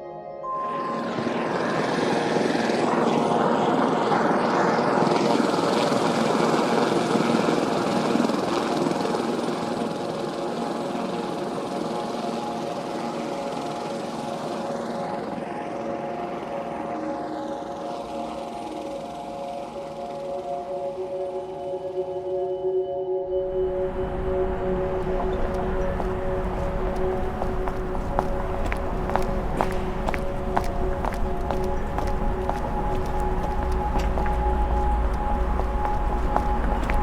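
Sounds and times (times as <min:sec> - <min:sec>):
helicopter rotor and engine: 0:00.8 - 0:21.6, 0:23.7 - 0:37.0.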